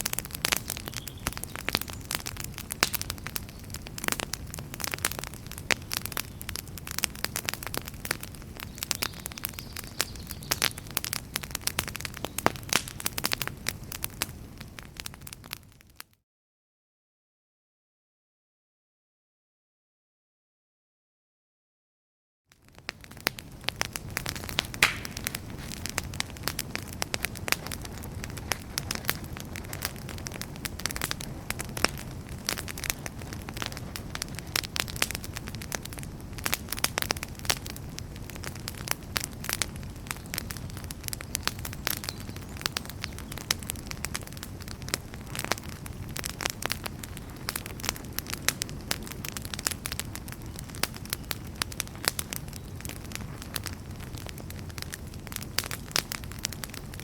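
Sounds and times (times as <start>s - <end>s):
campfire crackling and popping: 0.0s - 16.1s, 22.5s - 57.0s.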